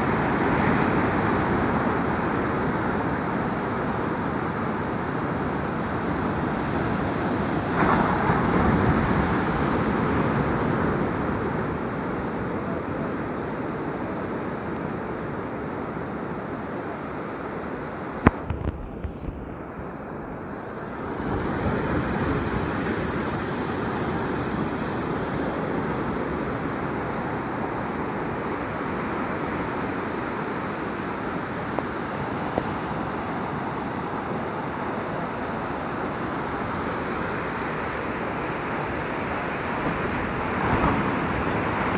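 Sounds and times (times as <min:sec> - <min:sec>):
surf washing on shore: 0:00.0 - 0:41.9.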